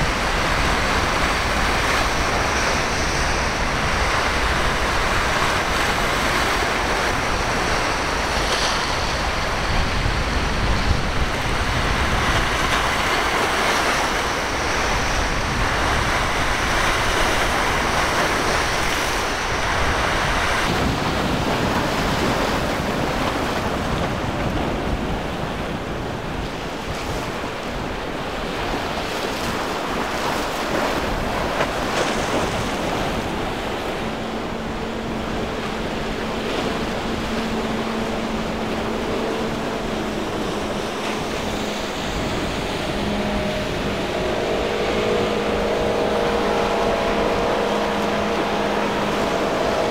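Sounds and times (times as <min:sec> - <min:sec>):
ocean waves breaking: 0:00.0 - 0:49.9
wind buffeting microphone: 0:00.0 - 0:49.9.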